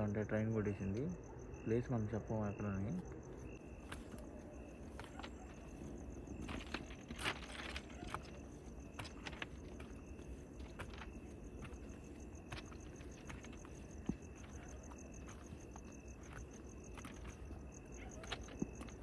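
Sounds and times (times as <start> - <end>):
high insect drone: 0.0 - 19.0
footsteps on gravel ballast: 3.6 - 19.0.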